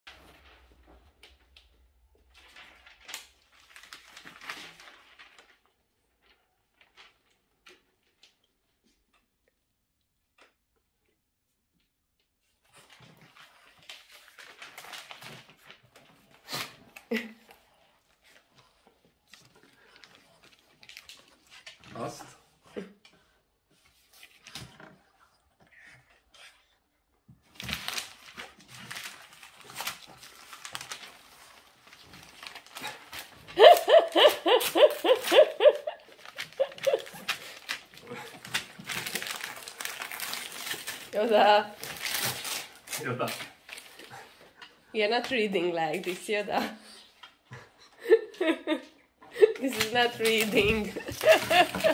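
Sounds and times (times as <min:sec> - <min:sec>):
paper rustling and crinkling: 0:00.1 - 0:08.7, 0:12.4 - 0:22.4, 0:23.7 - 0:25.3, 0:27.3 - 0:46.5, 0:49.4 - 0:51.9.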